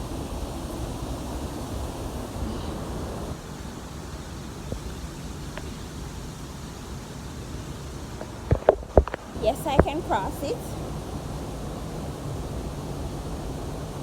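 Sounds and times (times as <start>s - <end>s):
river water rushing: 0.0s - 14.0s
wind noise on microphone: 0.0s - 14.0s.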